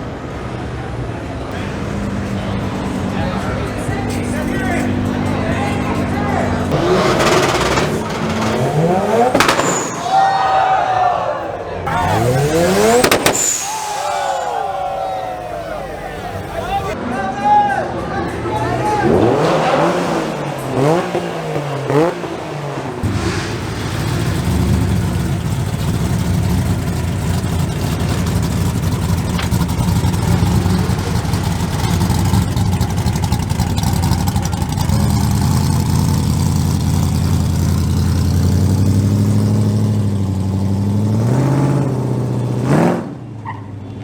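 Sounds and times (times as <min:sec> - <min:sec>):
car engines revving: 0:00.0 - 0:17.0, 0:18.3 - 0:44.0
steady engine drone: 0:01.0 - 0:10.1, 0:11.8 - 0:17.0, 0:18.6 - 0:42.8.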